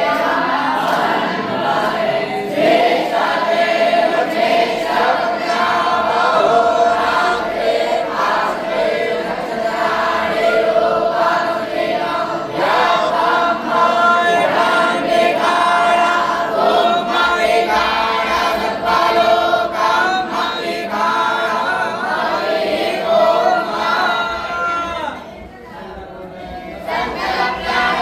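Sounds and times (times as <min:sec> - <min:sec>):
many voices chanting in unison: 0:00.0 - 0:28.0.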